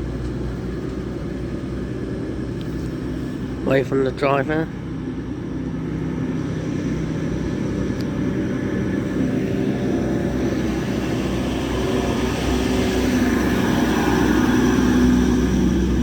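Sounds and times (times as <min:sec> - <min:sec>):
train diesel engine drone: 0:00.0 - 0:16.0.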